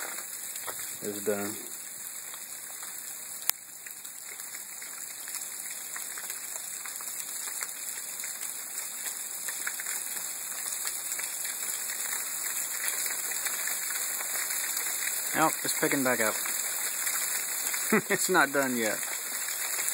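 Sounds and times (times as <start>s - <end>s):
rain pattering on surfaces: 0.0s - 19.9s.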